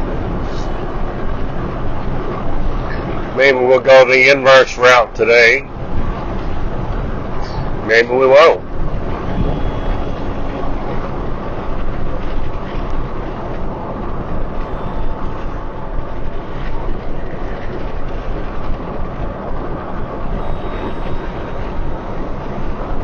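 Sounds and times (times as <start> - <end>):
car tyre and engine rumble: 0.0 - 23.0.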